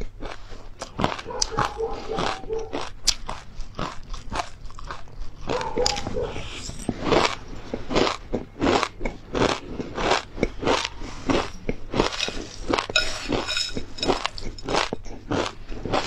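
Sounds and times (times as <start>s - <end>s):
crunchy crisp being chewed: 0.0s - 16.0s.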